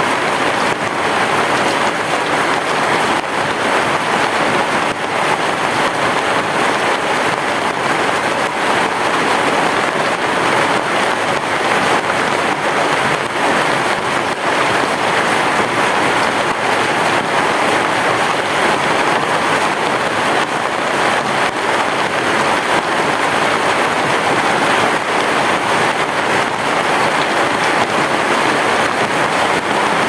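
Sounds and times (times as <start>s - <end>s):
heavy rain on a roof: 0.0s - 30.0s.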